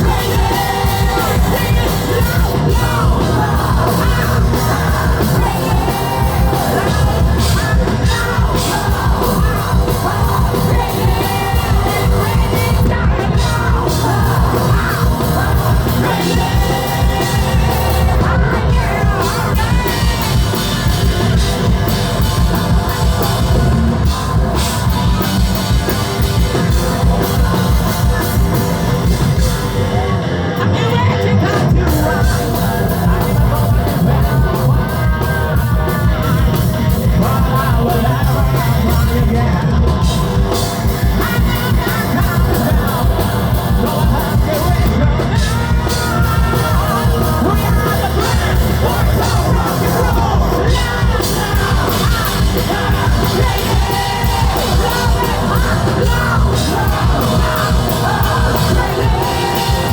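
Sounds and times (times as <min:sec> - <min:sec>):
hard rock band playing: 0:00.0 - 0:59.9
person singing: 0:00.0 - 0:59.9.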